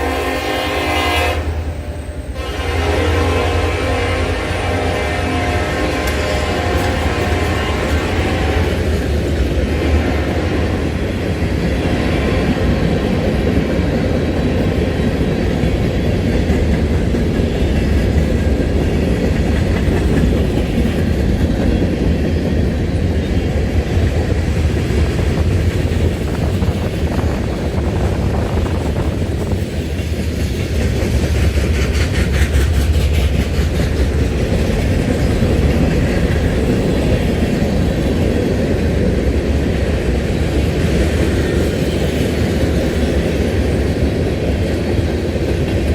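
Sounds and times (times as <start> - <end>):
train rumbling past: 0.0 - 45.9
train wheels clattering: 0.0 - 45.9.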